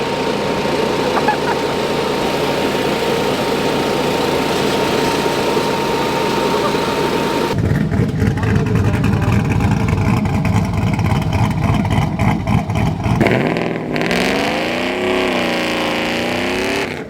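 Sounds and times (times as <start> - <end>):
truck engines idling: 0.0 - 17.0.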